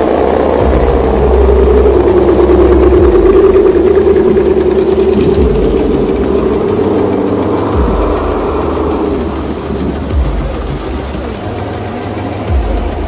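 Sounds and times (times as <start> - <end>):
low rumble: 0.0 - 13.0
rc trucks motor whine: 0.0 - 13.0.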